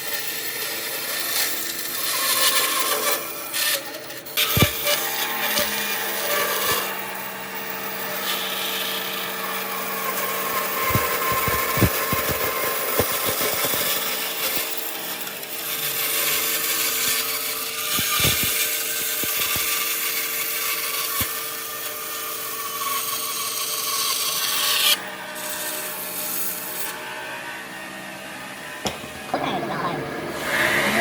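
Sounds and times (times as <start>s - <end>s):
wood rasping: 0.0s - 27.0s
power tool motor hum: 0.0s - 29.3s.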